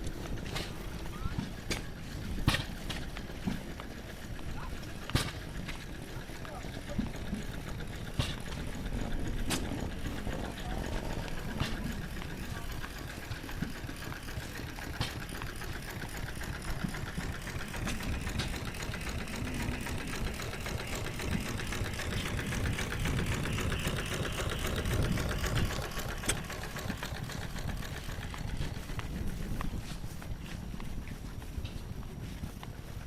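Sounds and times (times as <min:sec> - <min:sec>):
engine running with rapid beat: 0:00.0 - 0:33.0.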